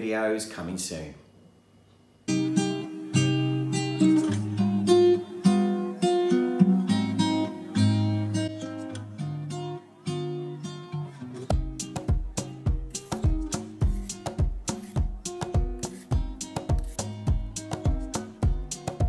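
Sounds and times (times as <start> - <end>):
acoustic guitar plucking and strumming: 2.2 - 19.0.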